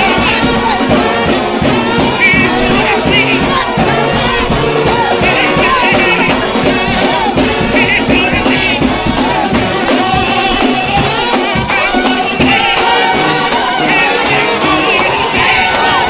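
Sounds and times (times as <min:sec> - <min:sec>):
drum kit: 0:00.0 - 0:16.0
trombone band playing a hymn: 0:00.0 - 0:16.0.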